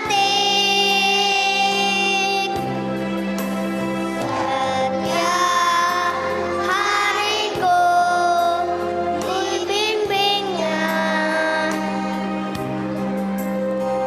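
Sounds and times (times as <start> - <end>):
children's choir singing: 0.0 - 2.7, 4.1 - 13.0
instrumental accompaniment: 0.0 - 14.0.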